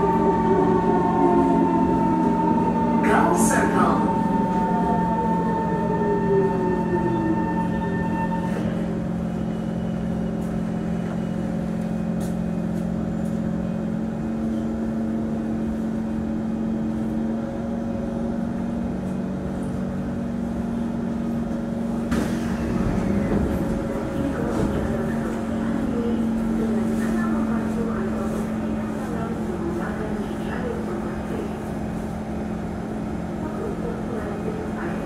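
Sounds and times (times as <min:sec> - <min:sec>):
train electrical hum: 0:00.0 - 0:35.0
train running noise: 0:00.0 - 0:35.0.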